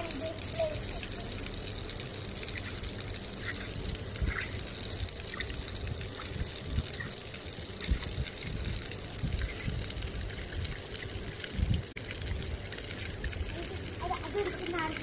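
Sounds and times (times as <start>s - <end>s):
water splashing onto concrete: 0.0s - 15.0s.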